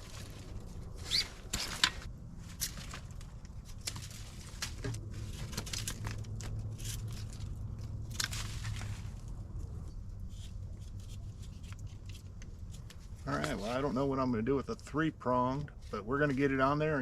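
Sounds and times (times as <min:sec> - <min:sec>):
knife scraping and cracking wood: 0:00.0 - 0:13.9.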